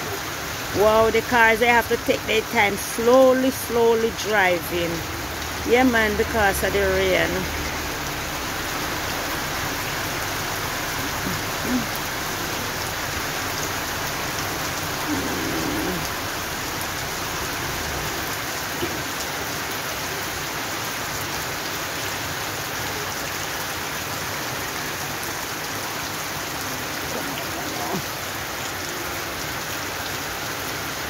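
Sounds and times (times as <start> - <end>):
heavy rain on pavement: 0.0 - 31.0.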